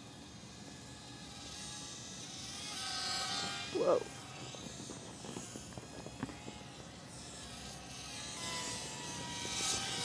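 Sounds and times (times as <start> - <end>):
small electric motor and propeller whine: 0.0 - 10.0.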